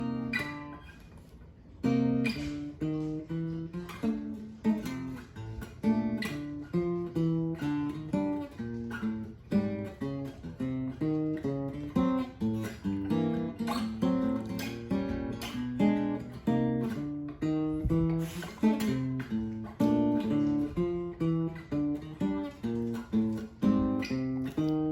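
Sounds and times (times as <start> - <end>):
acoustic guitar playing: 0.0 - 24.9.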